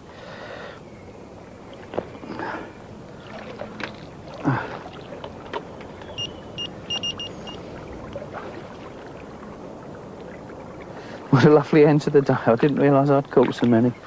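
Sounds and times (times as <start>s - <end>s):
small water splashes: 1.6s - 14.0s.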